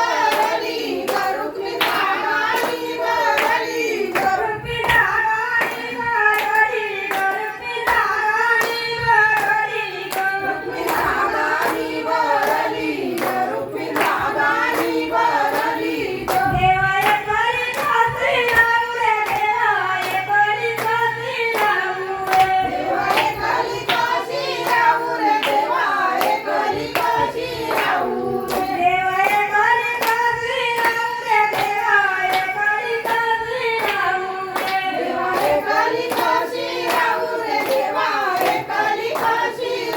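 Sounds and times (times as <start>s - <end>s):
rhythmic hand clapping: 0.0s - 39.9s
woman singing devotional song: 0.0s - 39.9s.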